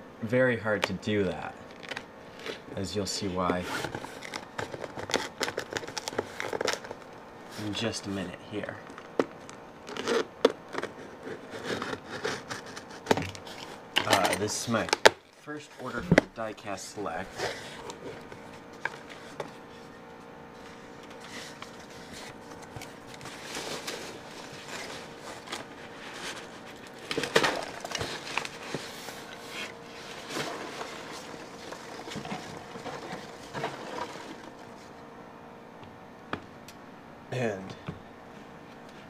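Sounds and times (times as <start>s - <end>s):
faint steady hum: 0.0s - 39.0s
handling rustles and scrapes: 1.6s - 35.0s.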